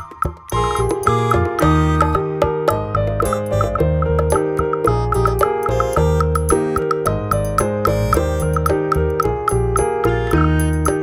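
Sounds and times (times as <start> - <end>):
bouncy keyboard and bell music: 0.0 - 11.0.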